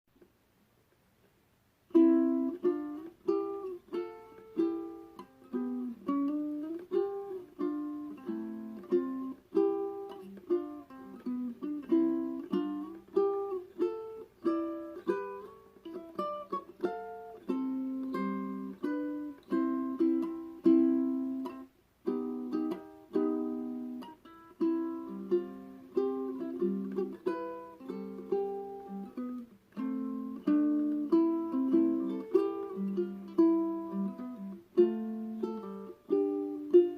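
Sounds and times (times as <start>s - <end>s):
fingerstyle ukulele: 1.9s - 36.9s.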